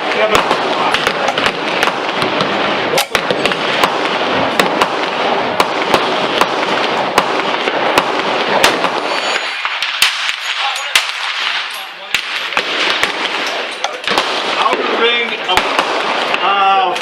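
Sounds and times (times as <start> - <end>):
pistol shots: 0.0 - 17.0.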